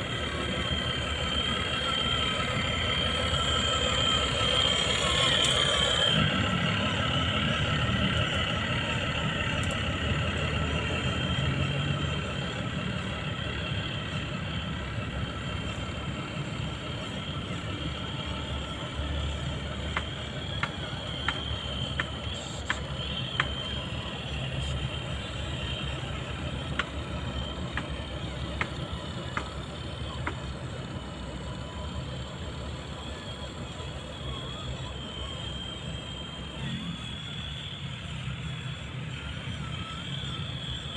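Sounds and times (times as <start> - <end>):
electric motor whine: 0.0 - 40.9
simulated truck engine running: 0.0 - 40.9.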